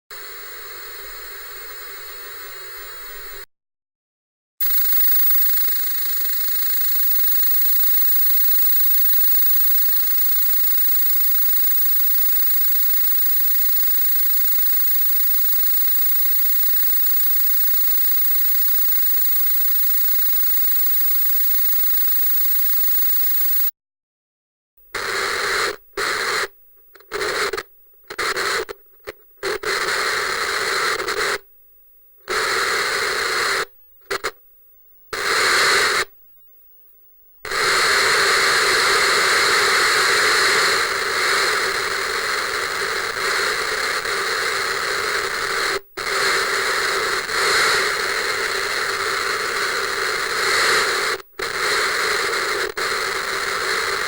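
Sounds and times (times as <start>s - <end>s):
tv static hiss: 0.1s - 3.5s, 4.6s - 23.7s, 24.9s - 31.6s, 32.2s - 34.4s, 35.1s - 36.3s, 37.4s - 54.0s.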